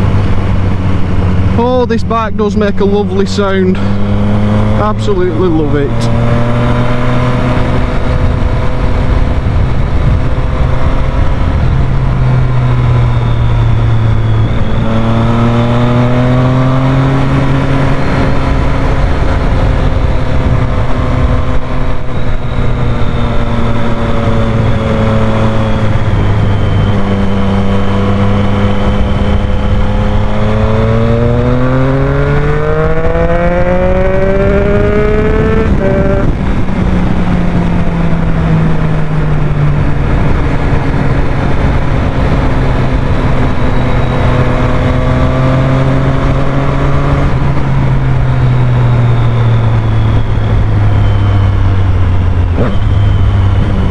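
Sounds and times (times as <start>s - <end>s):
motorcycle engine accelerating: 0.0s - 53.9s
wind noise rushing: 0.0s - 53.9s.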